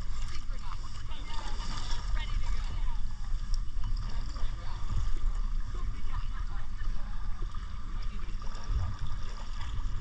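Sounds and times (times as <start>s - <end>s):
steady low rumble: 0.0s - 10.0s
water lapping and trickling: 0.0s - 10.0s.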